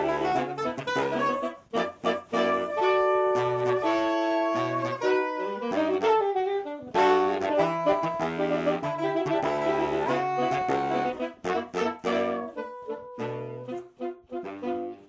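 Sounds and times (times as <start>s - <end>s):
saxophone quartet playing chords: 0.0s - 15.0s.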